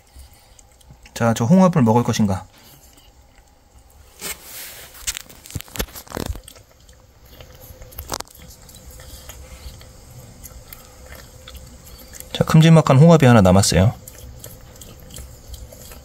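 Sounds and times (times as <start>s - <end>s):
cats chewing wet food: 0.0s - 4.1s, 4.8s - 16.0s.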